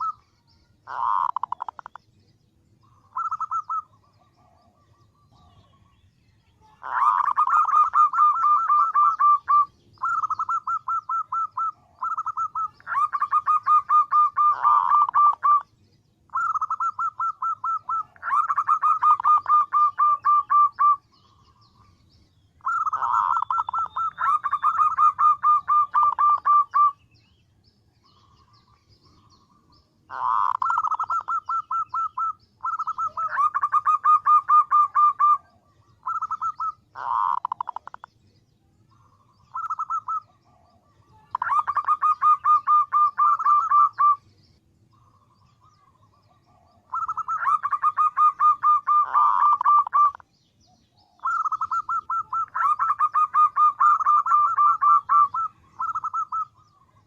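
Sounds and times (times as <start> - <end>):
dove cooing: 0.0 - 0.2, 0.8 - 2.0, 2.8 - 5.9, 6.6 - 21.9, 22.6 - 27.0, 28.0 - 38.1, 38.9 - 44.3, 44.9 - 50.3, 51.0 - 57.0.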